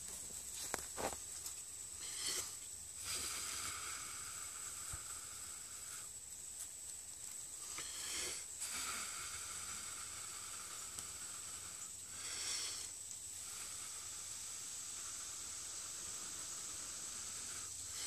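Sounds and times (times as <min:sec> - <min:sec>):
breath blown in hissing puffs: 0:02.0 - 0:06.2, 0:07.6 - 0:18.0.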